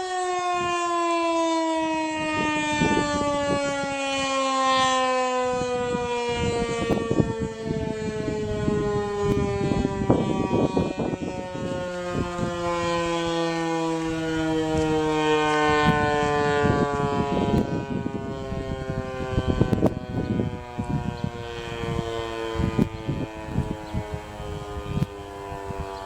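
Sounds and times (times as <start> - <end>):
warning siren wailing: 0.0 - 26.0
wind rumbling on microphone: 1.6 - 26.0.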